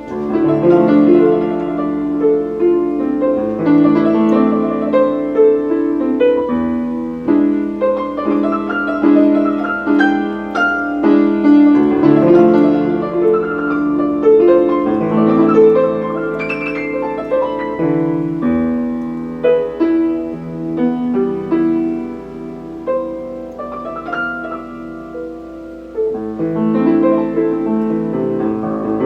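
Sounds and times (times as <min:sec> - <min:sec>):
piano playing classical piece: 0:00.0 - 0:29.0.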